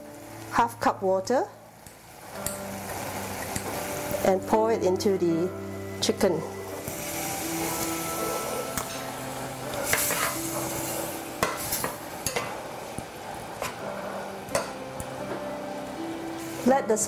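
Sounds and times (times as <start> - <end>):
sauce sizzling: 0.0 - 17.0.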